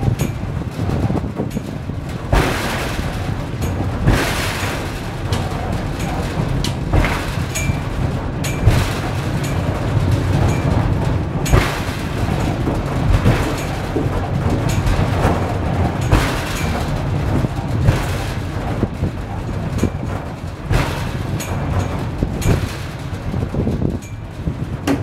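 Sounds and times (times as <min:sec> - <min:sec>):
funicular car rumbling on rails: 0:00.0 - 0:25.0.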